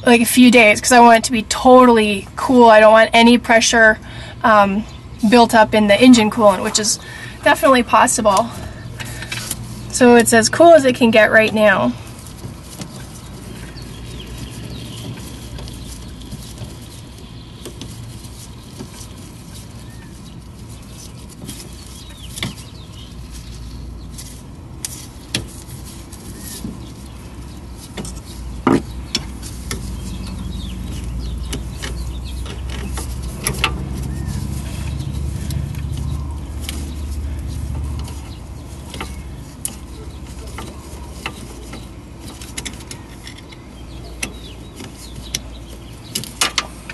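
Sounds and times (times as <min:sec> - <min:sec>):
low steady rumble: 0:00.0 - 0:46.9.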